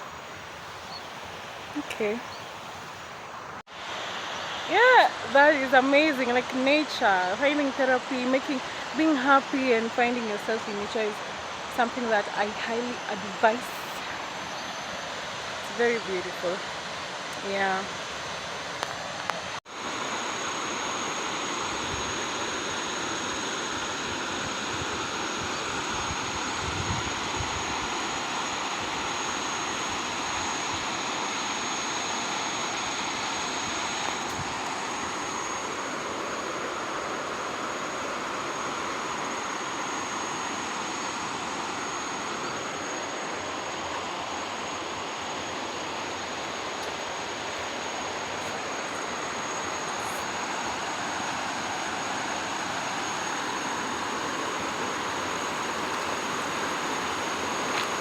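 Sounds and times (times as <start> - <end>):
flowing water rushing: 0.0 - 26.5, 27.1 - 58.0
high-pitched insect drone: 3.9 - 58.0.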